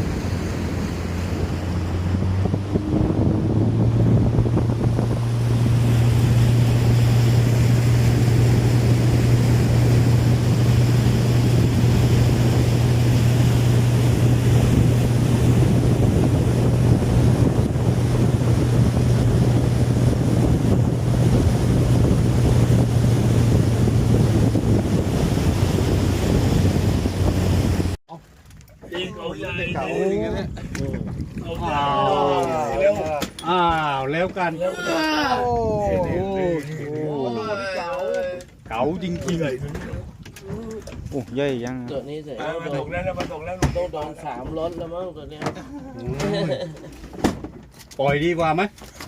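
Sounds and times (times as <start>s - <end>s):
wind buffeting microphone: 0.0s - 28.0s, 28.8s - 34.5s, 35.4s - 36.6s, 38.5s - 45.0s
sea noise: 0.0s - 44.6s
boat engine running: 0.0s - 48.8s.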